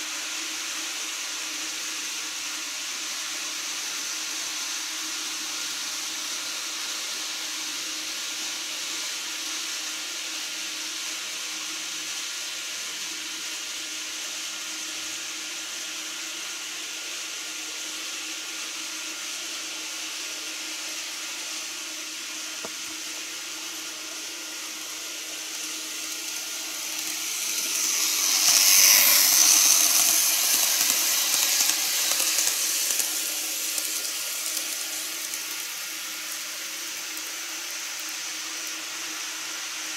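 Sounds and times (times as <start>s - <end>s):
model train whirring past: 0.0s - 39.9s
steady hiss: 0.0s - 39.9s.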